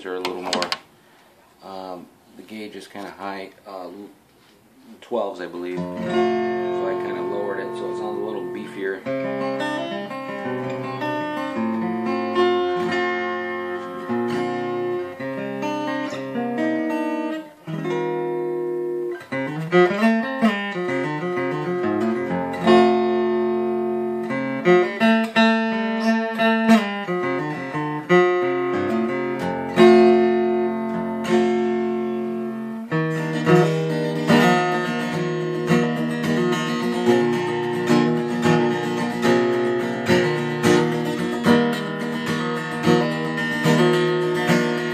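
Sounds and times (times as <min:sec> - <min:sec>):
acoustic guitar fingerstyle and strumming: 0:00.0 - 0:00.9, 0:01.6 - 0:44.9.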